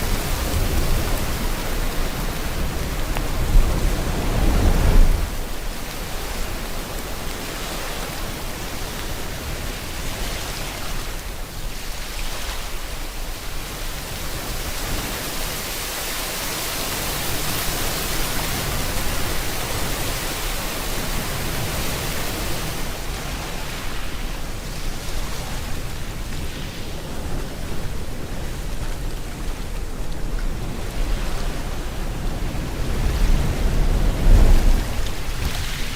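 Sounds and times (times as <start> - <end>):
ocean surf: 0.0 - 35.9
steady rain: 0.0 - 35.9.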